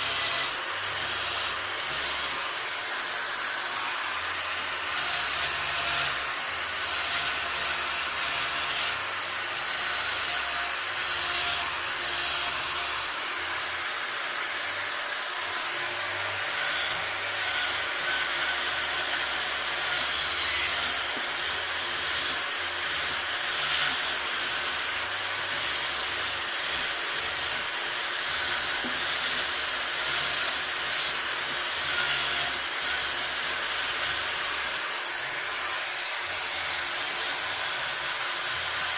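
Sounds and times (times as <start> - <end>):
power carving tool grinding wood: 0.0 - 38.9.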